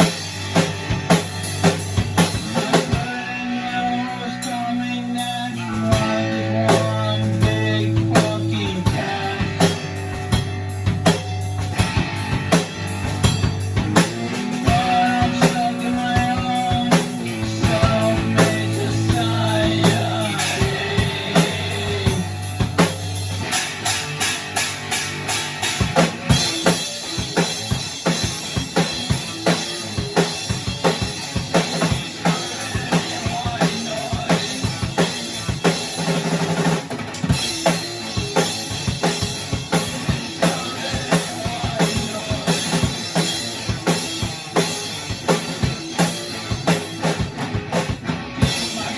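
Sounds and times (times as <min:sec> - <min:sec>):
bass and guitar chords: 0:00.0 - 0:48.9
drum kit beat: 0:00.0 - 0:48.9.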